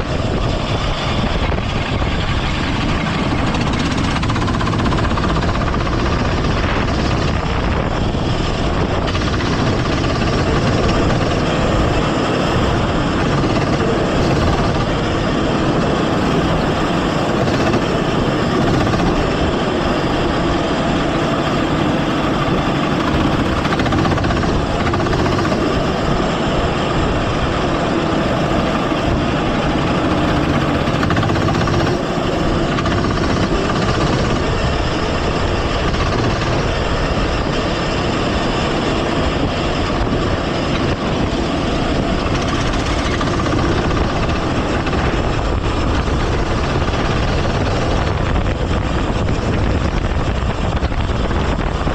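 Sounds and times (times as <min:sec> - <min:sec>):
go-kart engine running: 0:00.0 - 0:51.9.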